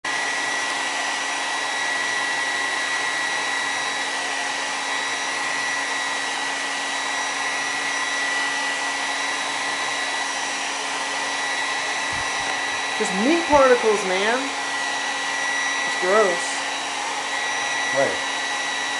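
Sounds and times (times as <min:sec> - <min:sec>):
hair dryer running: 0:00.0 - 0:18.9.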